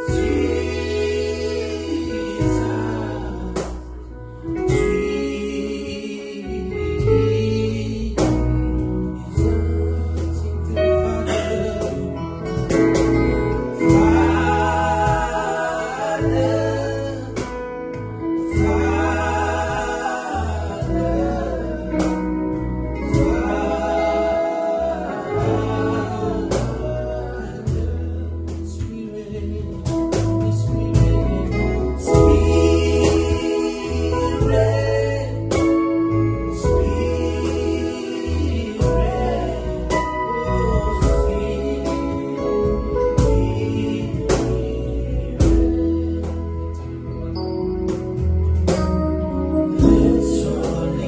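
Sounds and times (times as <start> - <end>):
bass notes: 0.0 - 51.0
guitar: 0.0 - 51.0
keyboard: 0.0 - 51.0
person singing: 0.0 - 51.0
small band with steady beat: 0.0 - 51.0.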